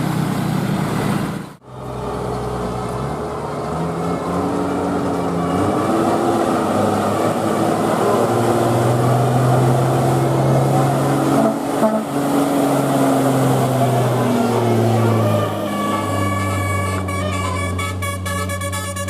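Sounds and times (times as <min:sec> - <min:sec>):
bus engine revving: 0:00.0 - 0:19.0
road noise: 0:00.0 - 0:19.0.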